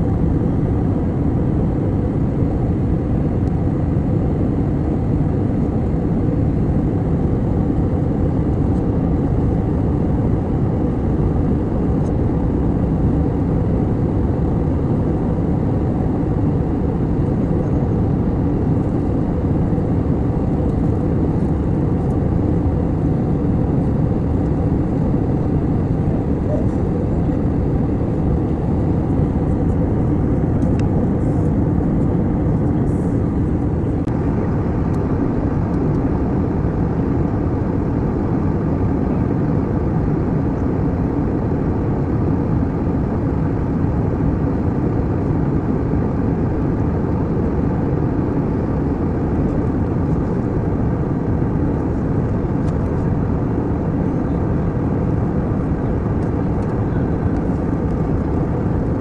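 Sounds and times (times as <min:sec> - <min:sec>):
airliner cabin engine and airflow noise: 0:00.0 - 0:59.0.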